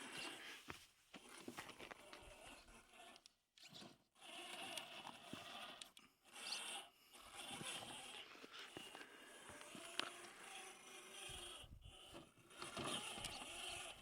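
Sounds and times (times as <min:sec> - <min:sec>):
electric motor whine: 0:01.3 - 0:14.0.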